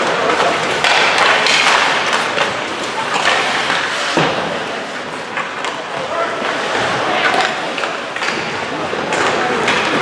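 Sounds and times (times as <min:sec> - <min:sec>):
pucks and bodies hitting boards: 0:00.0 - 0:10.0
skates scraping ice: 0:00.0 - 0:10.0
spectators' voices: 0:00.0 - 0:10.0.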